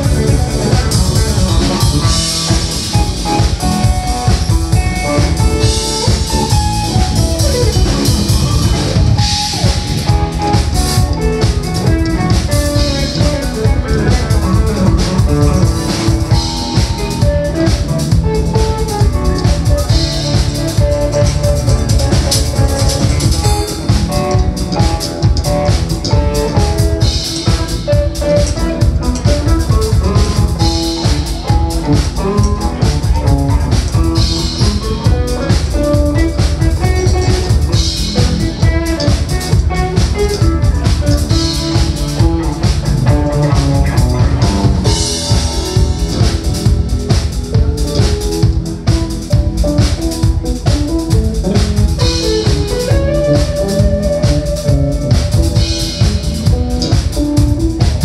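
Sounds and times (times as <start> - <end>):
drum kit beat: 0.0 - 58.0
electric guitars: 0.0 - 58.0.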